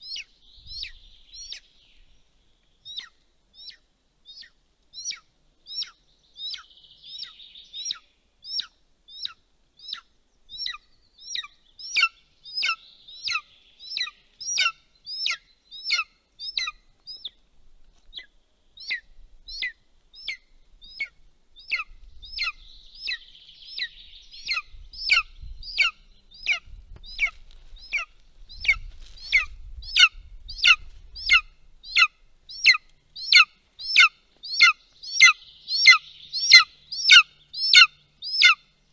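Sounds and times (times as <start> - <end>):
bird calling: 0.0 - 17.4, 18.1 - 38.9.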